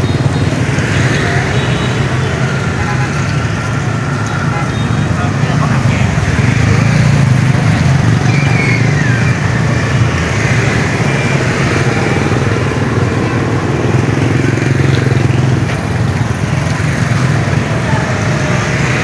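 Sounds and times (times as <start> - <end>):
motorbikes passing on wet road: 0.0 - 19.0.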